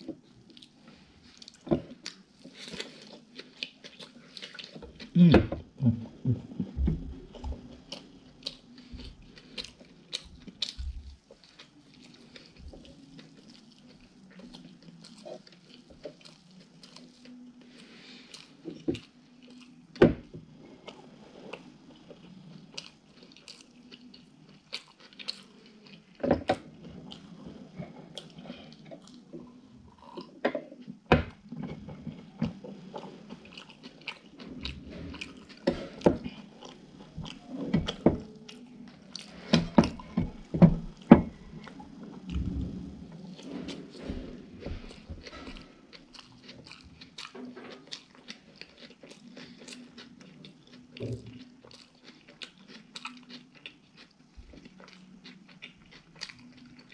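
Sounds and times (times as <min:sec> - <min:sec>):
close chewing: 0:00.0 - 0:56.9.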